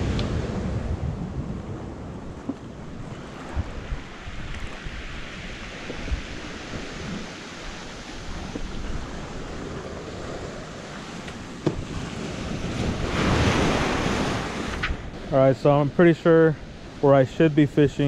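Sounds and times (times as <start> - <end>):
wind buffeting microphone: 0.0 - 17.1
surf washing onto sand: 3.1 - 18.0.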